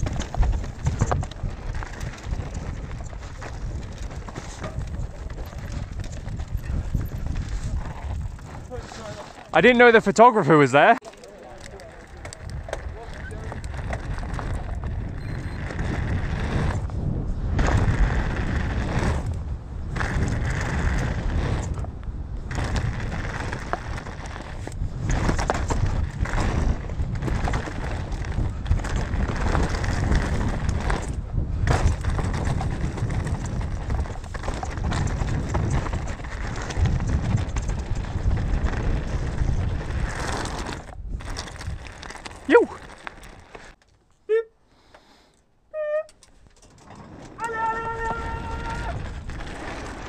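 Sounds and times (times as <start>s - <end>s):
wind rumble on microphone: 0.0s - 9.6s, 11.6s - 43.8s, 46.8s - 50.0s
bike tyres on dirt: 0.0s - 44.1s, 44.7s - 50.0s.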